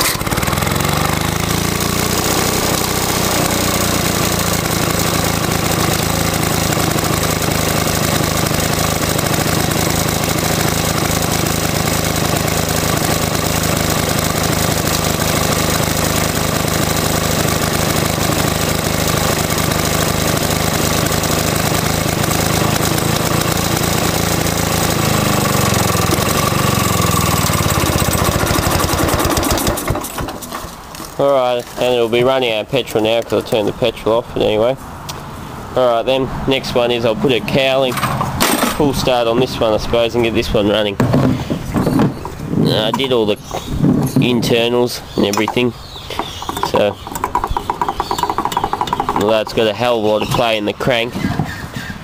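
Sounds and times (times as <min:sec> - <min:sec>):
lumpy two-stroke mower engine idling: 0:00.0 - 0:34.0, 0:37.0 - 0:51.1.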